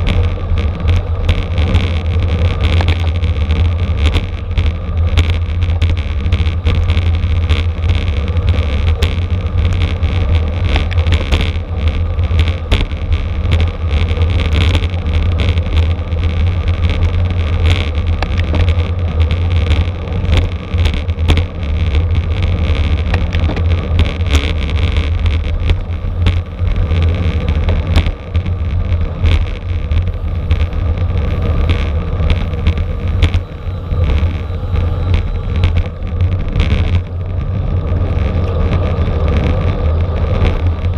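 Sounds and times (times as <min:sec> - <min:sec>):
small clicks and rattles: 0:00.0 - 0:40.9
wind buffeting microphone: 0:00.0 - 0:40.9.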